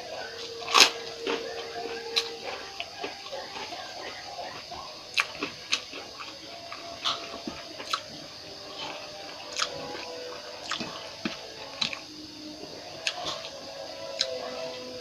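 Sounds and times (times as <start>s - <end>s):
person chewing: 0.6s - 13.5s.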